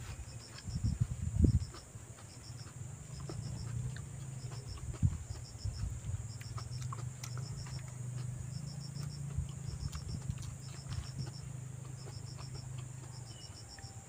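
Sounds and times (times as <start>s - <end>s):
insect chirping: 0.0s - 14.0s
steady low hum: 0.0s - 14.0s
crab shell cracking and chewing: 0.4s - 14.0s.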